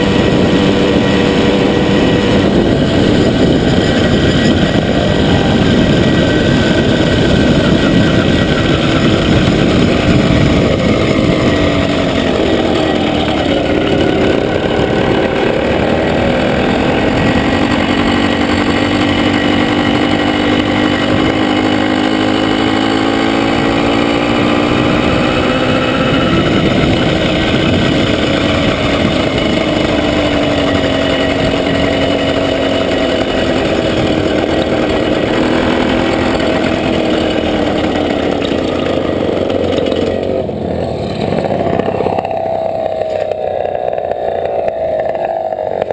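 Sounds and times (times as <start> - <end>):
motorcycle engine running: 0.0 - 45.9
steady rushing noise: 0.0 - 45.9.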